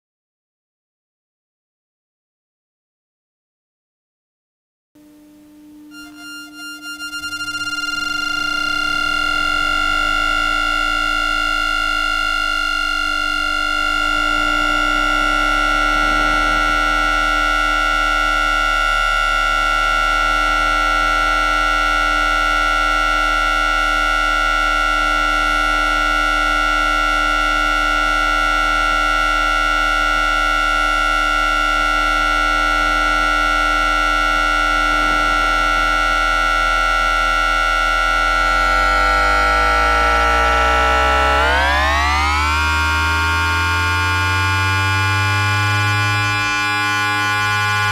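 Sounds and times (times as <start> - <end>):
low hum: 5.0 - 47.9
tram inverter high whine: 5.0 - 47.9
rising electric tones: 5.9 - 28.4, 29.4 - 47.9.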